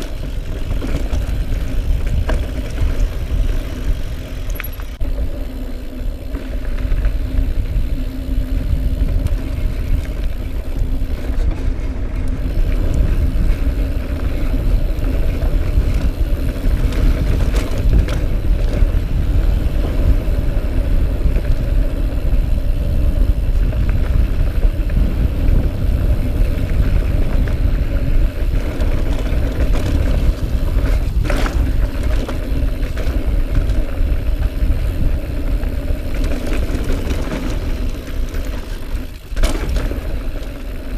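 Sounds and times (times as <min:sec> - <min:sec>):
bike tyre rumble on dirt: 0:00.0 - 0:40.9
steady hum: 0:00.0 - 0:40.9
wind buffeting microphone: 0:00.0 - 0:40.9.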